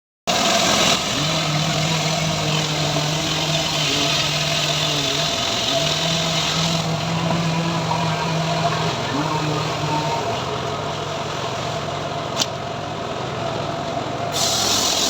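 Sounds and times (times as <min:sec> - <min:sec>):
sawmill engine humming: 0:00.3 - 0:15.0.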